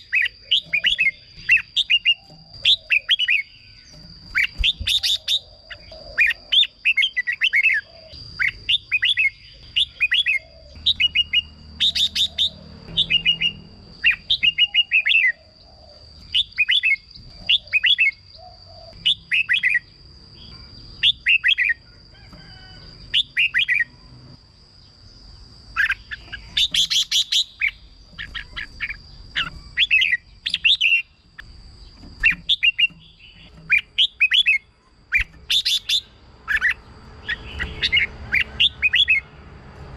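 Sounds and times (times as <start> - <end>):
bulbul singing whistled phrases: 0.0 - 19.9, 25.8 - 31.5, 32.2 - 39.3.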